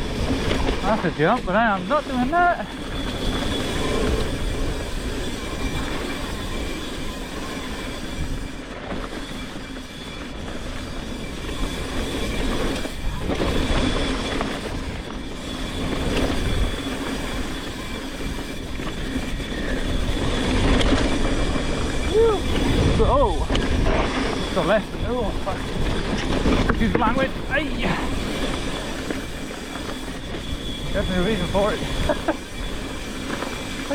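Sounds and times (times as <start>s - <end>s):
bike tyre and frame rattle: 0.0s - 33.9s
thin high whine: 0.0s - 33.9s.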